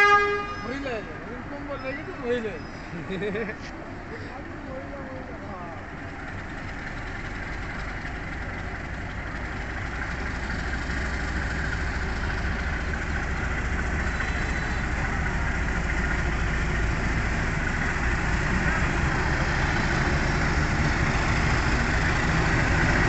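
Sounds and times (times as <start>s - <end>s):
diesel locomotive engine rumbling: 0.0s - 23.0s.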